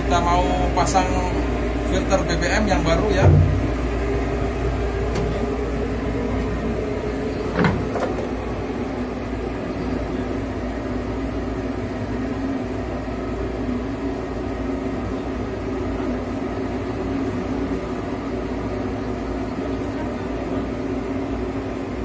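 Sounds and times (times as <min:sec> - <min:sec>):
machinery droning: 0:00.0 - 0:22.0.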